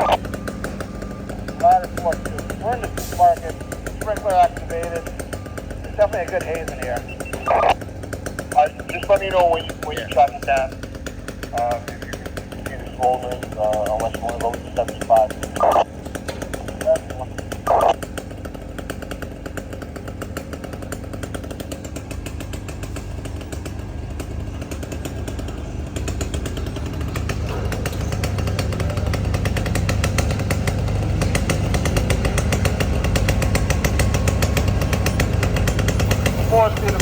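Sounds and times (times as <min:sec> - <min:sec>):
engine running with rapid pulse: 0:00.0 - 0:37.0.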